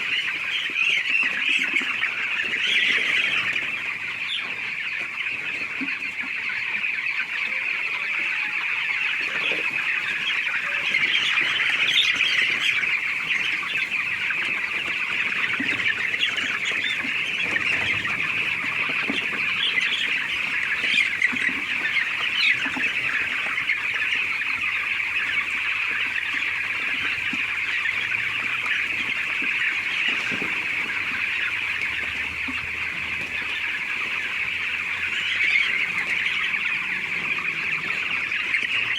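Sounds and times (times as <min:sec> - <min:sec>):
chicken squawks: 0:00.0 - 0:38.9
chickens clucking and peeping: 0:00.0 - 0:38.9.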